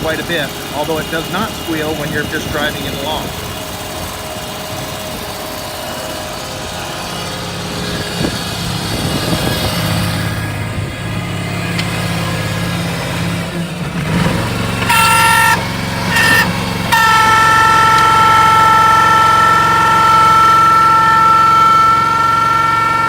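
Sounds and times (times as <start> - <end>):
gas engine running: 0.0 - 23.0
hydraulic pump squealing: 0.0 - 23.0.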